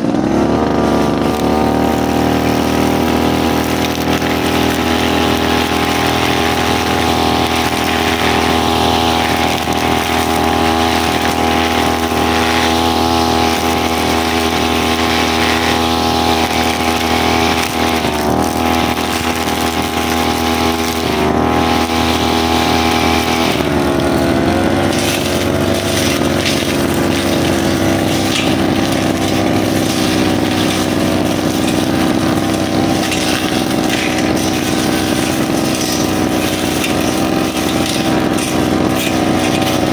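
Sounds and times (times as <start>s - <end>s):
brushcutter engine running: 0.0s - 39.9s.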